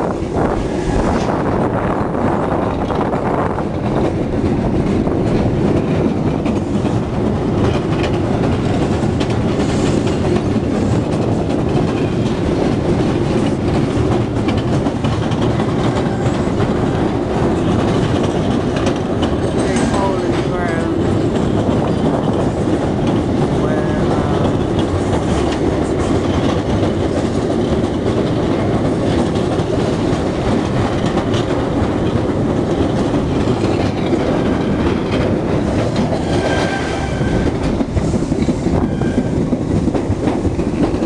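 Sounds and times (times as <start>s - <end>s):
train wheels on rails: 0.0s - 41.0s.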